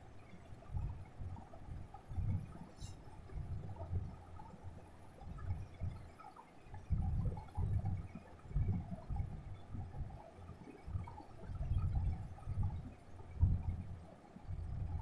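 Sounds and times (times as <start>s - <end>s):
low rumbling buffeting on microphone: 0.0s - 6.1s, 6.8s - 15.0s.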